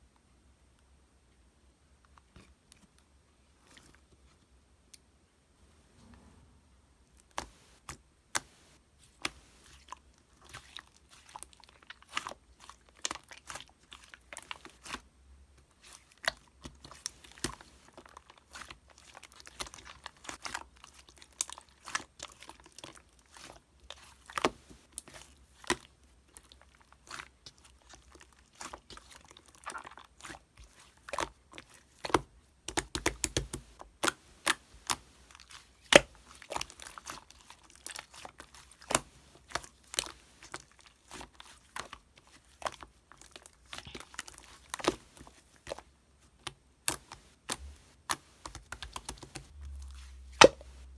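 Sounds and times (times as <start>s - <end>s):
slime squished by hand: 7.2s - 15.0s, 15.6s - 50.9s.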